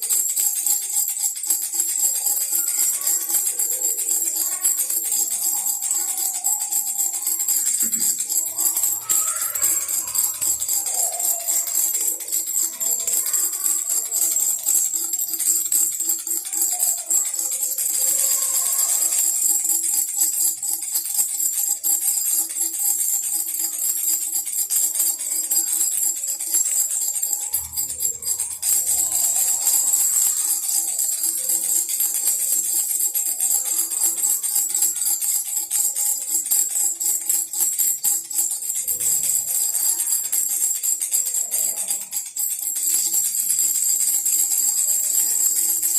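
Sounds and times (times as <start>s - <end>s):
baby rattle shaken: 0.0s - 45.9s.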